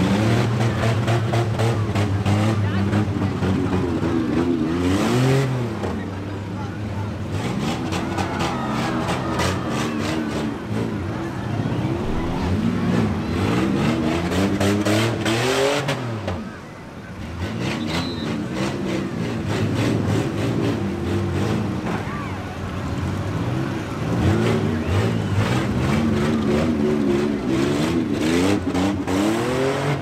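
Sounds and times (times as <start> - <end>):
engines revving hard: 0.0 - 30.0.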